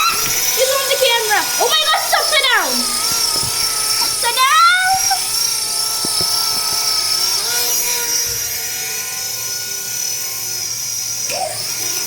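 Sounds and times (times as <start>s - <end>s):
propeller motors whirring: 0.0s - 12.0s.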